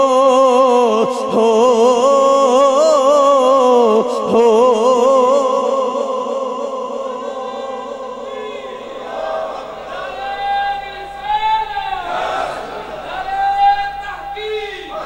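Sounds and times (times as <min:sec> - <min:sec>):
man singing long note with vibrato: 0:00.0 - 0:15.0.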